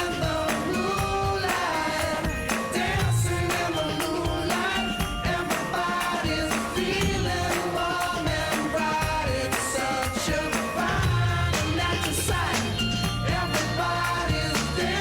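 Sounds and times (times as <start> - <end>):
pop song with singing: 0.0 - 15.0.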